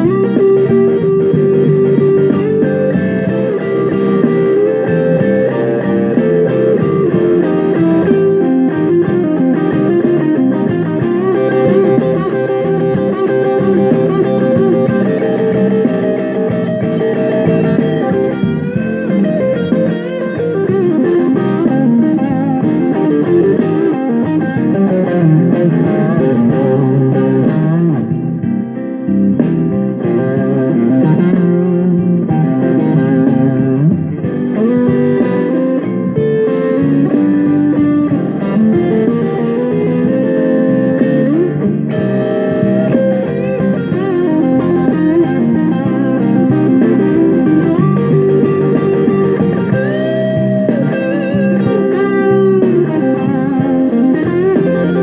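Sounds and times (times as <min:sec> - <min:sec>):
backing jam track: 0:00.0 - 0:55.0
electric guitar through amp: 0:00.0 - 0:55.0.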